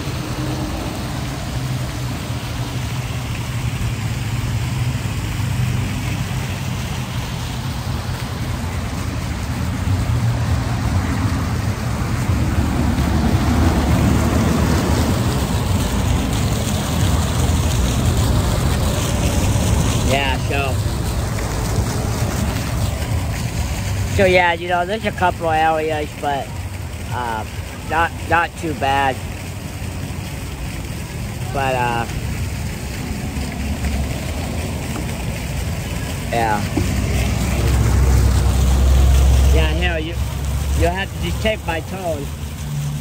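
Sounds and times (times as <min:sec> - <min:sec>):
fountain water splashing: 0:00.0 - 0:43.0.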